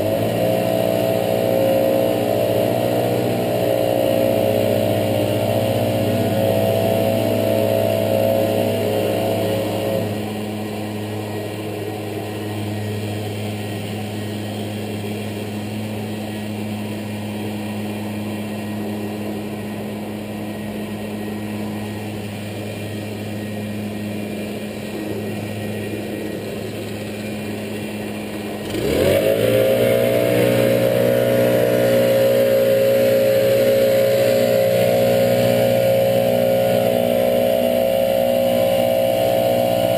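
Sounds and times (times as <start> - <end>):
leaf blower engine revving: 0.0 - 39.9.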